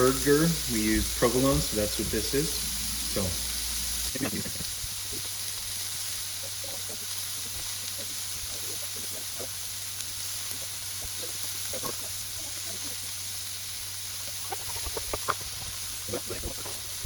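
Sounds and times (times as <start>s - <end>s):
patties sizzling on a griddle: 0.0s - 17.0s.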